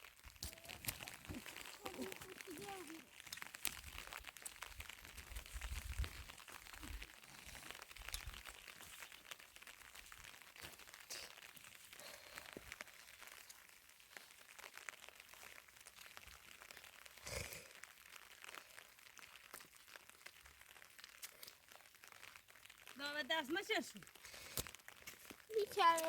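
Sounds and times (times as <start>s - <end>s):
faint rustling and crackling: 0.0s - 26.0s.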